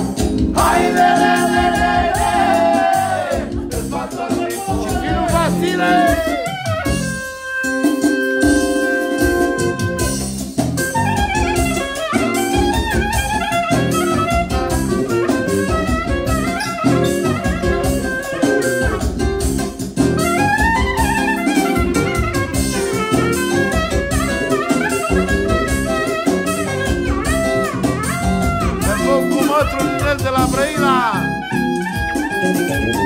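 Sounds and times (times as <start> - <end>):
electronic keyboard accompaniment: 0.0 - 33.0
clarinet solo: 4.5 - 19.3, 20.1 - 33.0.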